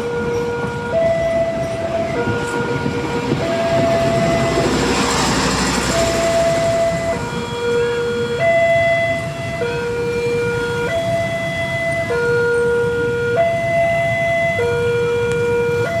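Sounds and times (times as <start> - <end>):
two-tone level crossing alarm: 0.0 - 16.0.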